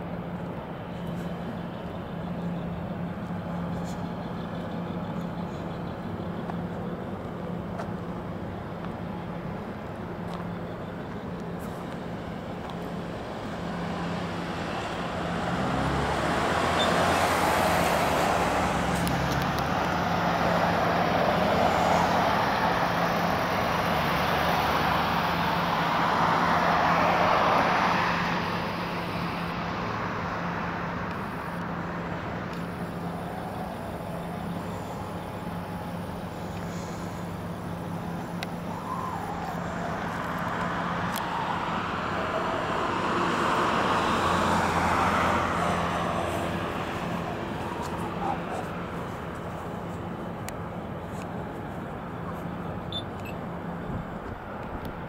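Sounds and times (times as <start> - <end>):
steady low traffic hum: 0.0 - 55.0
vehicles driving past: 0.0 - 55.0.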